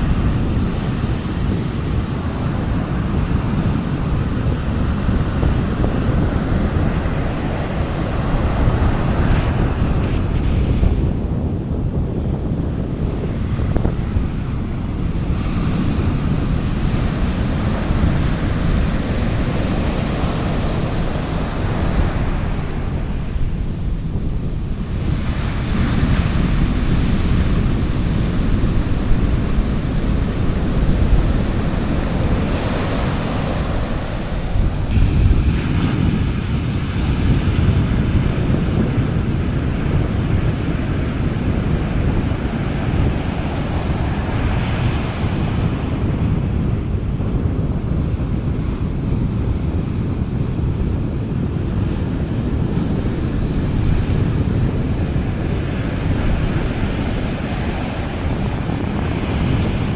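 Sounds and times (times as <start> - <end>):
sea waves breaking on beach: 0.0 - 59.9
wind rumbling on microphone: 0.0 - 59.9.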